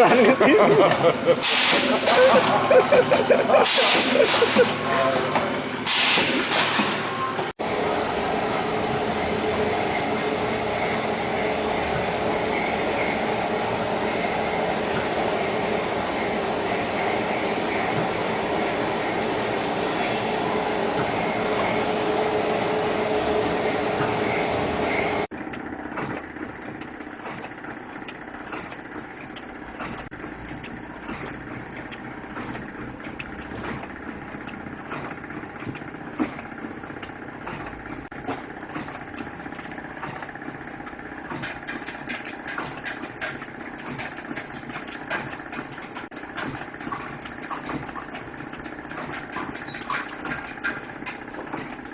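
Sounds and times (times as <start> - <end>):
packaging machine whirring: 0.0 - 51.9.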